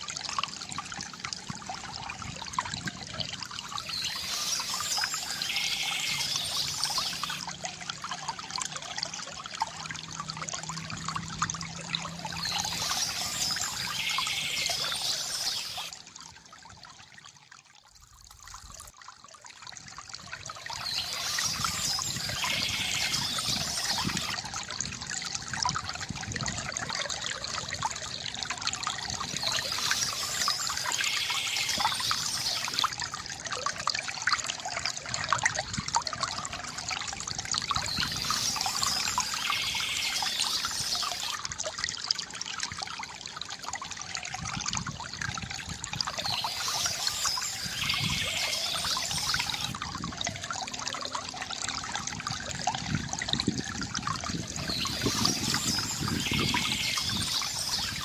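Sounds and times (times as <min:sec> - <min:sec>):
fountain water trickling into basin: 0:00.0 - 0:58.0.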